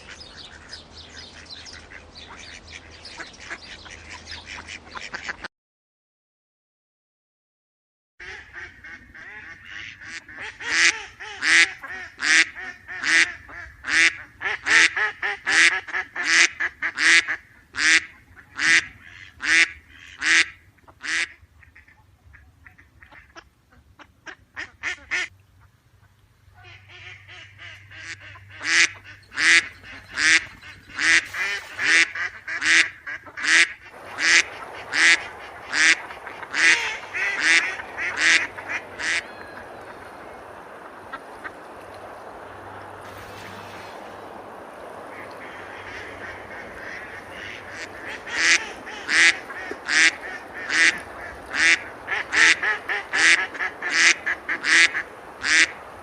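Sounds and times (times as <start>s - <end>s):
duck quacking: 0.0s - 5.5s, 8.2s - 40.0s, 45.1s - 55.8s.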